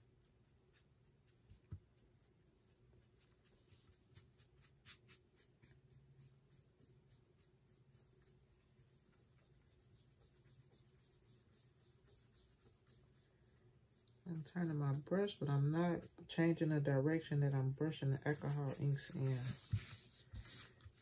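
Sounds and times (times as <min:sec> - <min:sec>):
sponge brush scratching metal tray: 0:04.2 - 0:21.0.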